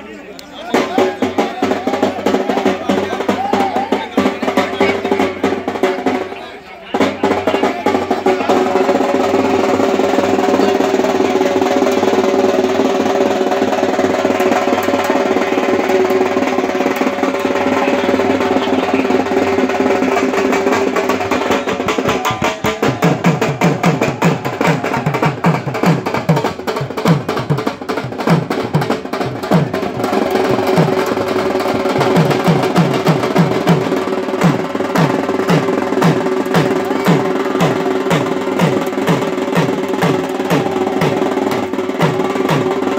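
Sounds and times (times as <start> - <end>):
rapid percussion: 0.5 - 42.9
low drumbeat: 6.9 - 42.9.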